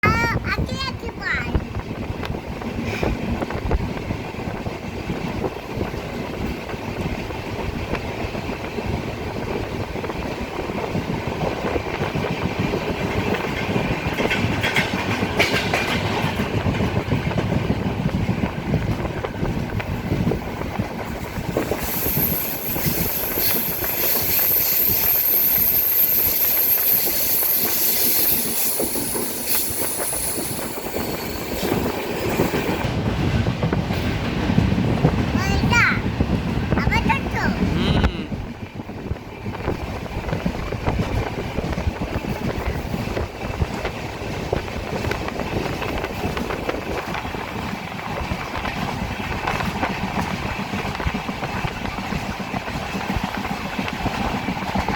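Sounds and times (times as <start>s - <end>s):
train wheels clattering on track: 0.7s - 37.7s, 38.3s - 54.9s.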